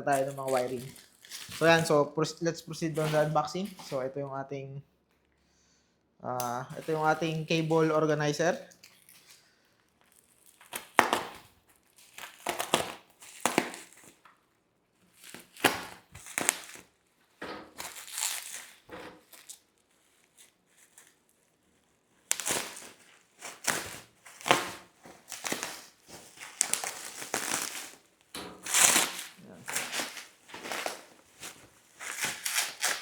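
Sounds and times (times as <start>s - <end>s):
packaging crinkling: 0.0s - 2.0s, 2.6s - 4.0s, 6.4s - 14.3s, 15.1s - 33.0s.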